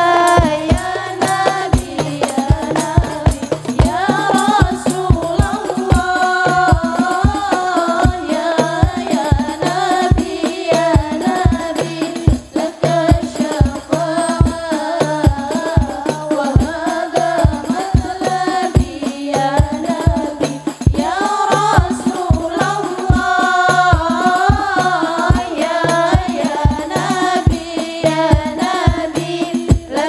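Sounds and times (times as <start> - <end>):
frame drums: 0.0 - 30.0
women singing together: 0.0 - 30.0.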